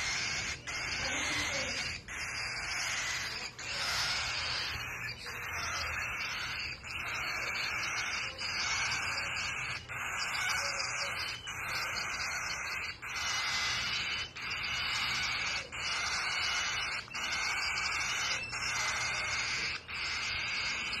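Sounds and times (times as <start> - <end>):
chicks raspy begging calls: 0.0 - 21.0.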